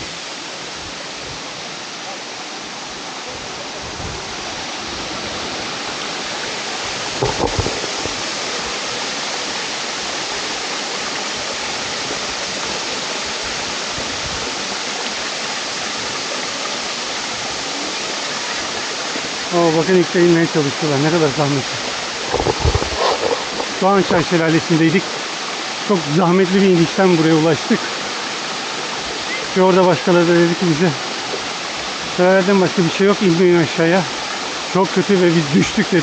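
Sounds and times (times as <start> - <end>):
waterfall pouring: 0.0 - 36.0.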